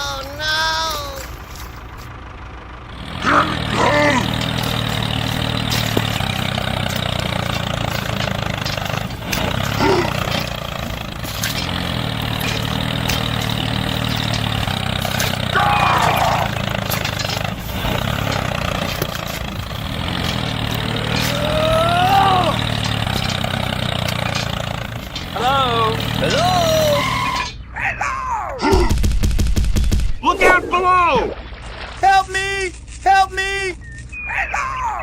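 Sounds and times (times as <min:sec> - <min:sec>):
engine running: 0:00.0 - 0:28.0, 0:28.6 - 0:35.0.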